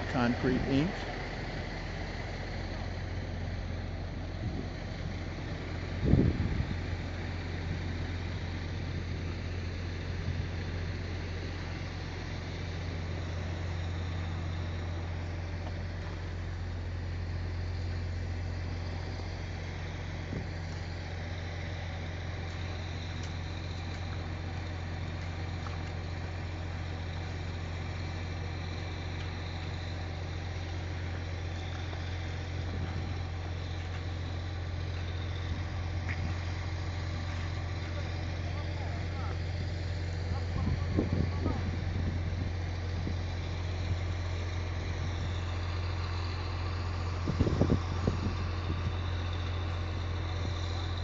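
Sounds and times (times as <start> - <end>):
diesel engine droning: 0.0 - 51.0.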